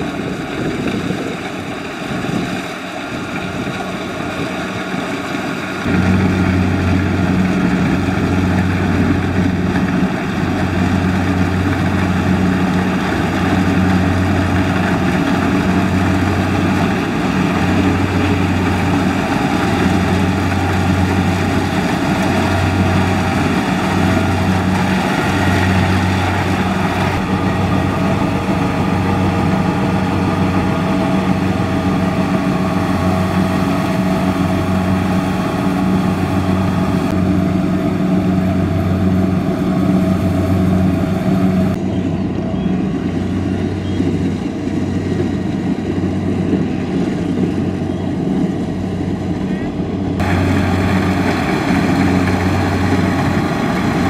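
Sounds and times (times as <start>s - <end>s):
combine harvester diesel engine drone: 0.0s - 54.0s.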